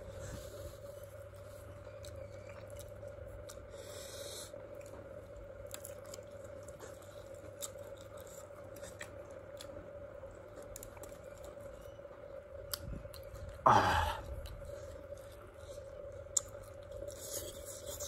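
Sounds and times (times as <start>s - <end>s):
faint steady hum: 0.0s - 18.0s
wet chewing clicks and smacks: 1.1s - 13.6s, 14.2s - 18.0s.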